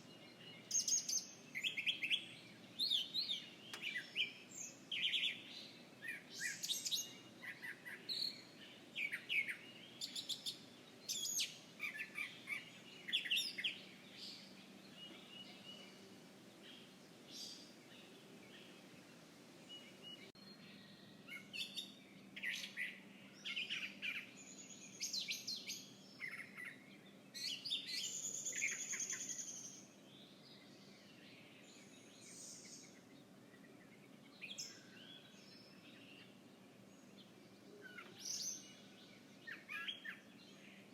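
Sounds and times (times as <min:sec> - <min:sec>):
faint steady background hum: 0:00.0 - 0:40.9
wild birds chirping: 0:00.0 - 0:40.9.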